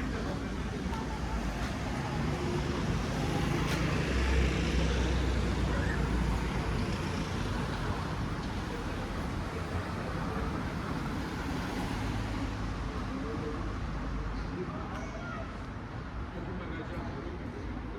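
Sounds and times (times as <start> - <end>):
road traffic rumble: 0.0 - 14.7.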